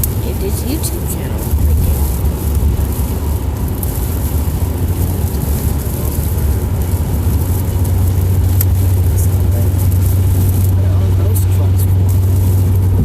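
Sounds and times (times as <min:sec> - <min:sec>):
car cabin road and engine rumble: 0:00.0 - 0:13.0
tyre hiss on wet road: 0:00.0 - 0:13.0.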